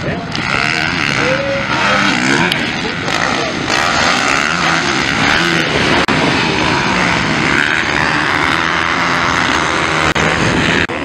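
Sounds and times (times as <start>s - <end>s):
motocross bikes revving past: 0.0s - 11.0s.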